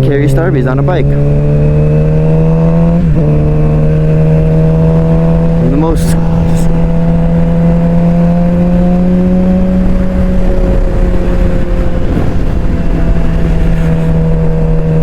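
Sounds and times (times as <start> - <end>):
low wind rumble: 0.0 - 15.0
motorcycle engine running: 0.0 - 15.0.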